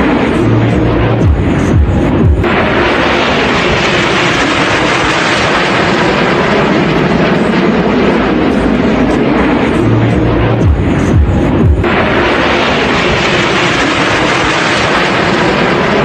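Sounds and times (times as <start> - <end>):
jet engines rushing overhead: 0.0 - 16.0.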